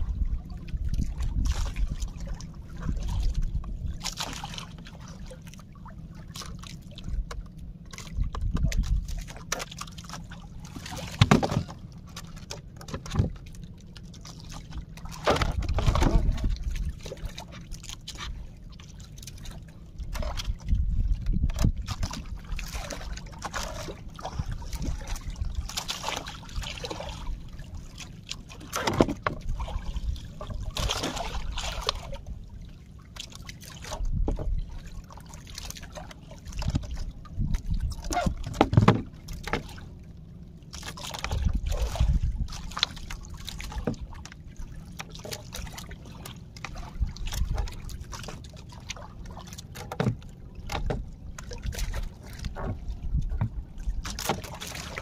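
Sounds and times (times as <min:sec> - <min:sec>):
steady low rumble: 0:00.0 - 0:28.7, 0:29.4 - 0:55.0
water sloshing and splashing: 0:00.0 - 0:55.0.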